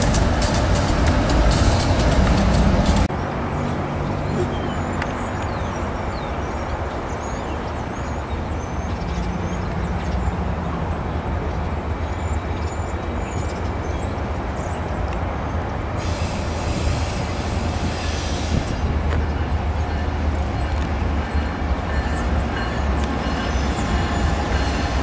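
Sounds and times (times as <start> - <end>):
freight train rumble: 0.0 - 25.0.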